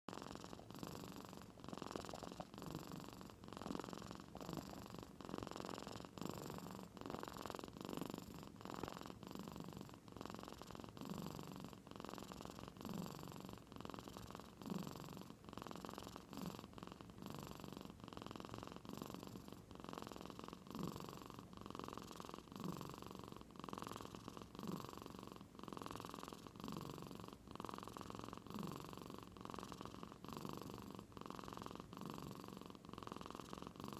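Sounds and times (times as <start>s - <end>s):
cat snoring: 0.1s - 33.9s.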